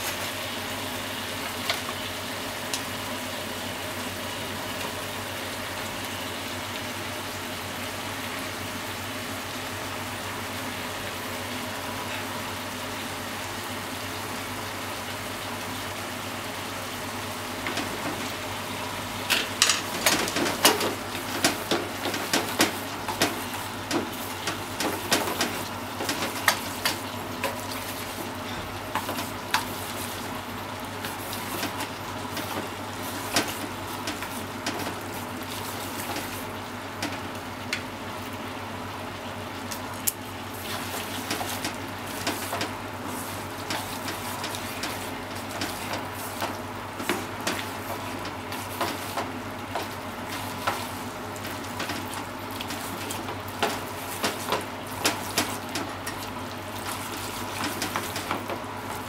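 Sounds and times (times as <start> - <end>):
food sizzling in a frying pan: 0.0 - 59.0.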